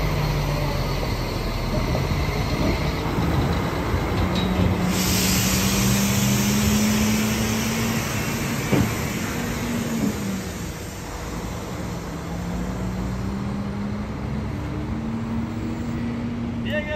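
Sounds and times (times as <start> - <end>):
truck diesel engine pulling away: 0.0 - 16.4.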